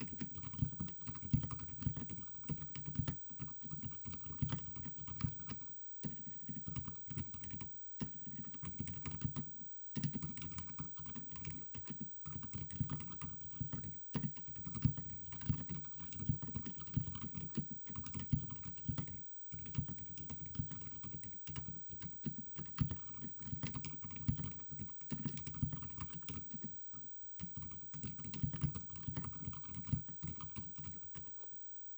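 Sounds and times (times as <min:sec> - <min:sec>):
muffled mechanical keyboard typing: 0:00.0 - 0:31.4.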